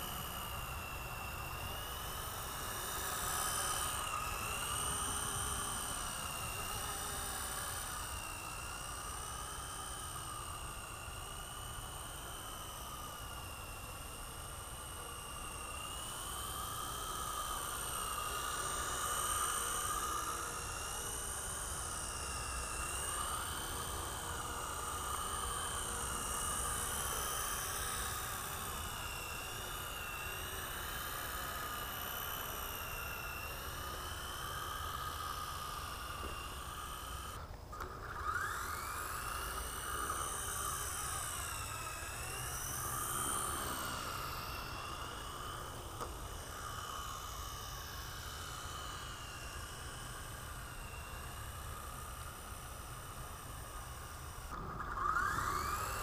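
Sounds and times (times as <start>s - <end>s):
rc helicopter rotor whine: 0.0s - 56.0s.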